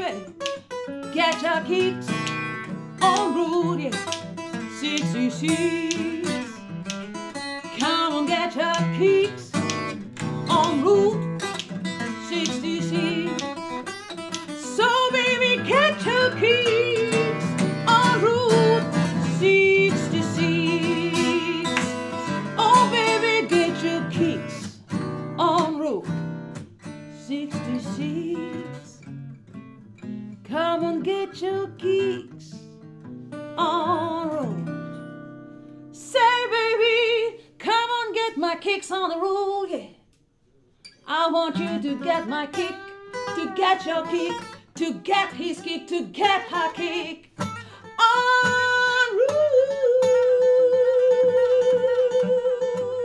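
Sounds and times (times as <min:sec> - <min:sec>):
woman singing: 0:00.0 - 0:06.8, 0:07.6 - 0:13.9, 0:14.5 - 0:24.8, 0:25.4 - 0:26.2, 0:27.2 - 0:29.0, 0:30.5 - 0:32.6, 0:33.6 - 0:34.7, 0:35.9 - 0:40.0, 0:41.0 - 0:53.0
acoustic guitar: 0:00.0 - 0:53.0.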